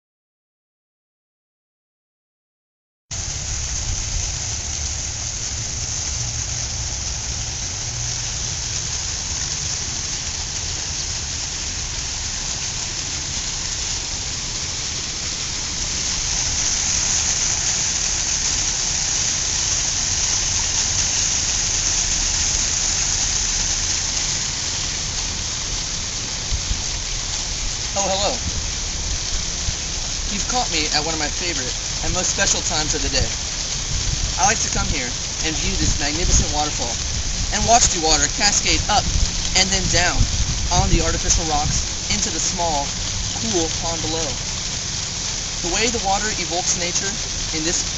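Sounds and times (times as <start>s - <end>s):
waterfall fountain rushing: 3.1s - 47.9s.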